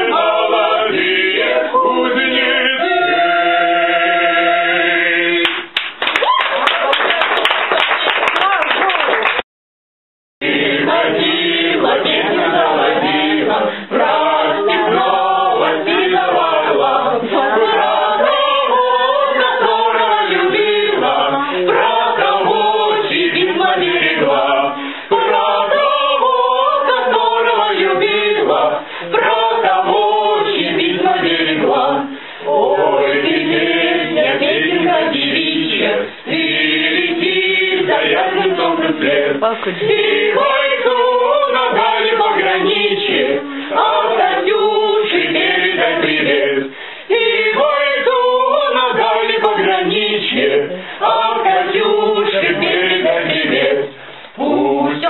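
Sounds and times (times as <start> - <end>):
group of people singing: 0.0 - 5.8, 10.4 - 55.0.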